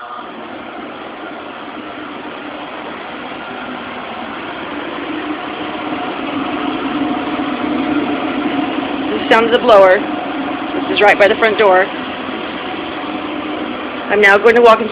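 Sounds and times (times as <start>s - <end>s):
air conditioning blower running: 0.0s - 14.9s.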